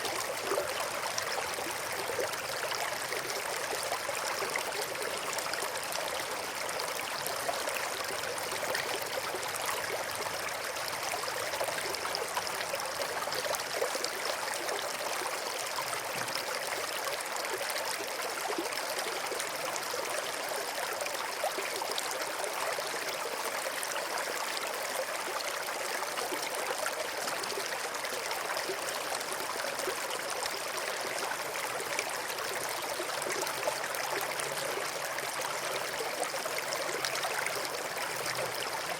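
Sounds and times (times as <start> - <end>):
river water flowing over rocks: 0.0 - 38.9.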